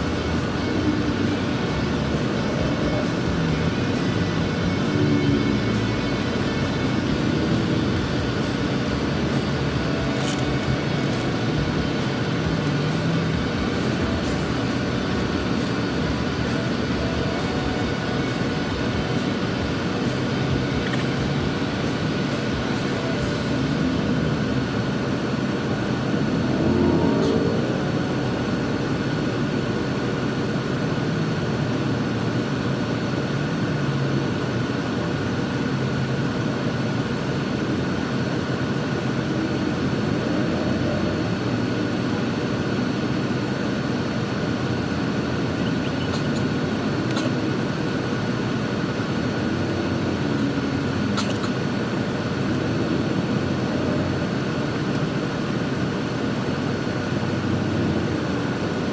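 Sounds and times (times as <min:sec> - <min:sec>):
bus engine drone: 0:00.0 - 0:58.9.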